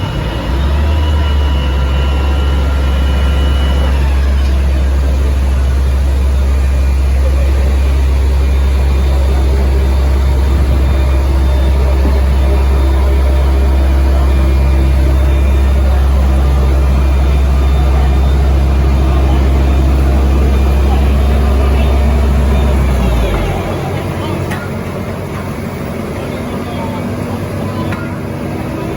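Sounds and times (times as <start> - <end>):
diesel machinery engine rumble: 0.0 - 28.9.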